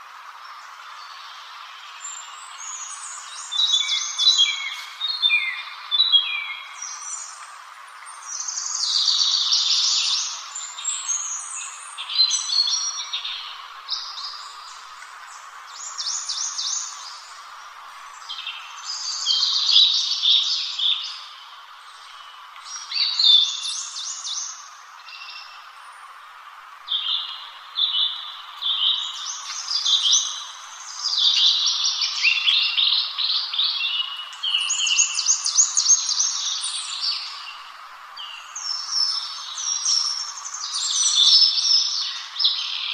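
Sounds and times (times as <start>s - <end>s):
faint steady hiss: 0.0s - 42.9s
songbird chirping: 0.0s - 42.9s.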